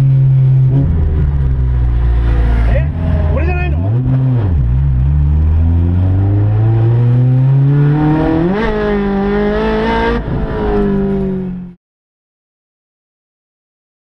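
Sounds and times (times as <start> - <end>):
car engine revving in cabin: 0.0 - 11.8.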